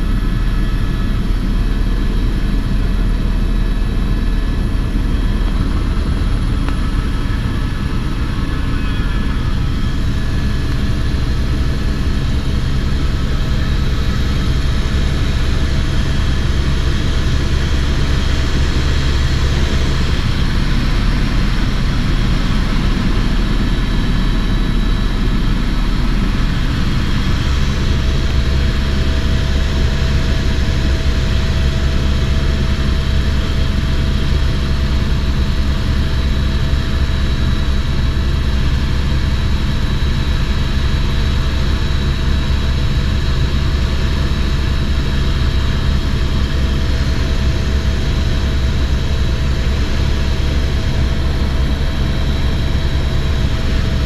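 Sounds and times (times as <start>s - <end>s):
helicopter drone from inside cabin: 0.0s - 54.0s.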